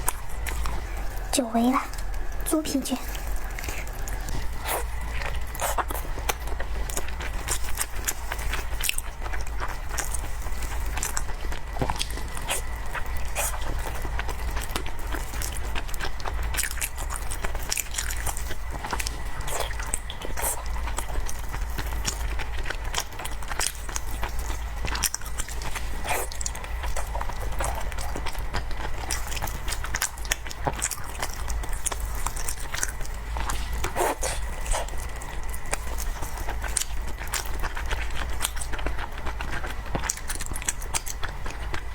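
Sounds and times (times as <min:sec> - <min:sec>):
chewing and biting: 0:00.0 - 0:41.9.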